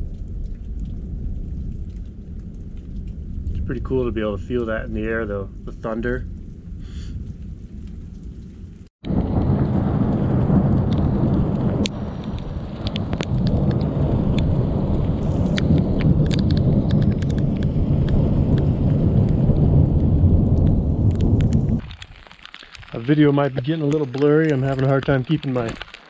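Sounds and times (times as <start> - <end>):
low thunder rumbling: 0.0 - 22.0, 22.8 - 25.9
raindrops ticking near microphone: 0.0 - 26.0
steady rain: 0.0 - 26.0.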